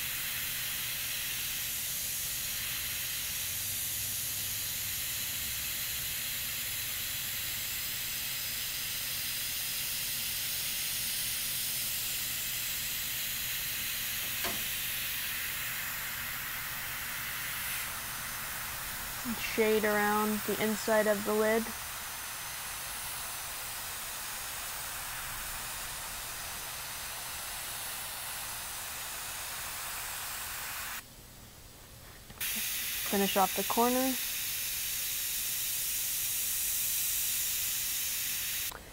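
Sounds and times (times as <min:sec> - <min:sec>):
airbrush spraying hiss: 0:00.0 - 0:31.0, 0:32.4 - 0:38.7.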